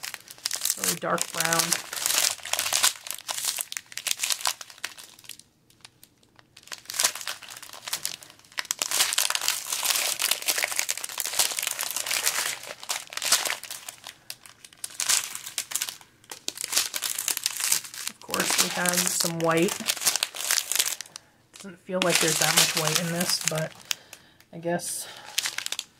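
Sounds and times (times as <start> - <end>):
plastic bags crinkling: 0.0 - 25.9.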